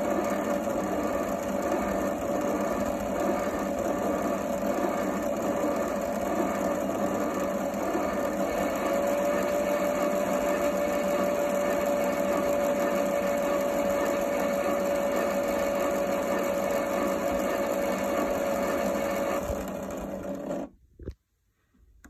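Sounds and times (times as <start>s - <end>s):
toy washing machine whirring: 0.0s - 20.7s.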